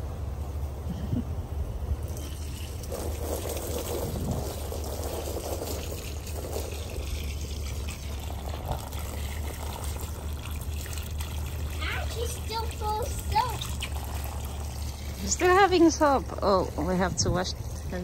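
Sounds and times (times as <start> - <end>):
water pouring into plastic bowl: 2.1 - 18.0.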